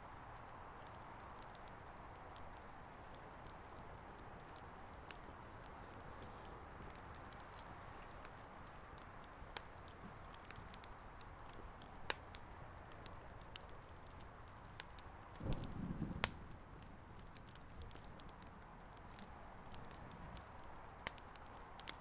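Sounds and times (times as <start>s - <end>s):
faint steady hiss: 0.0s - 22.0s
wood fire crackling: 0.0s - 22.0s
sharp pops of fire: 0.2s - 22.0s.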